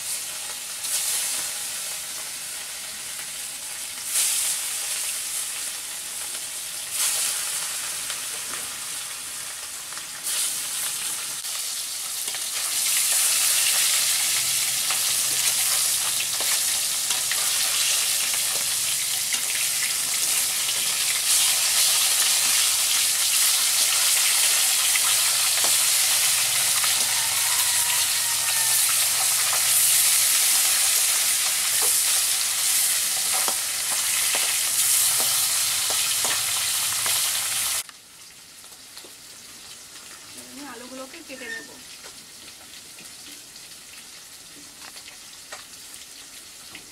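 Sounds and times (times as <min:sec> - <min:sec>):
fish sizzling in hot oil: 0:00.0 - 0:46.9.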